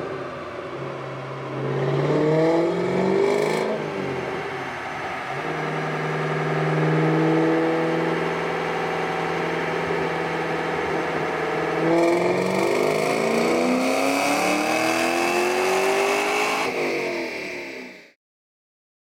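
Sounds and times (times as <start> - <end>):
car engine revving on dyno: 0.0 - 18.2.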